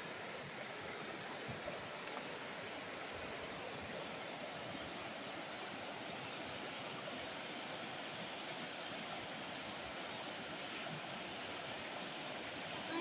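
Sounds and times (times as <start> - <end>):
river rushing over shallows: 0.0 - 13.0.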